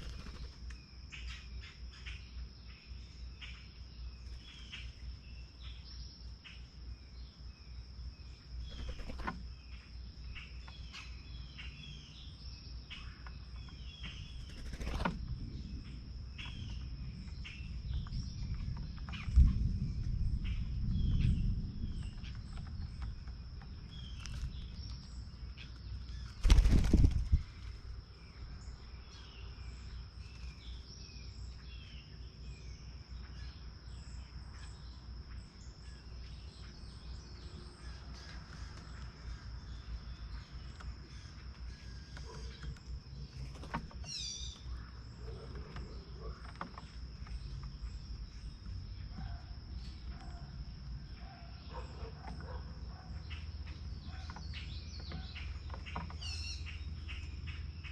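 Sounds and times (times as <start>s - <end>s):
small songbirds chirping: 0.0s - 57.9s.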